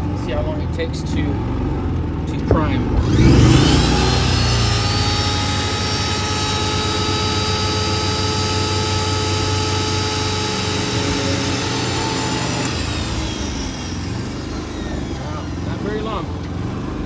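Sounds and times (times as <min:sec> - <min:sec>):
pressure washer motor whining: 0:00.0 - 0:17.0.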